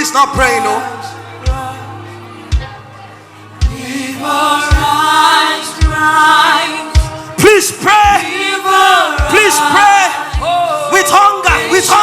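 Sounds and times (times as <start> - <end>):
voices singing long notes: 0.3 - 12.0.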